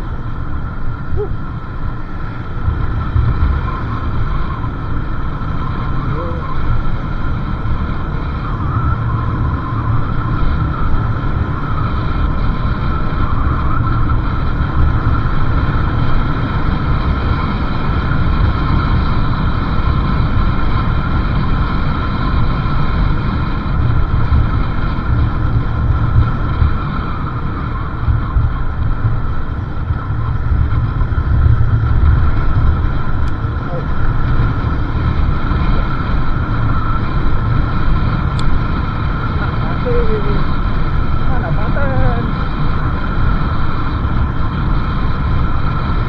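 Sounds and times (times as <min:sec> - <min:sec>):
motorcycle engine: 0:00.0 - 0:46.0
road noise: 0:00.0 - 0:46.0
wind buffeting on microphone: 0:00.0 - 0:46.0.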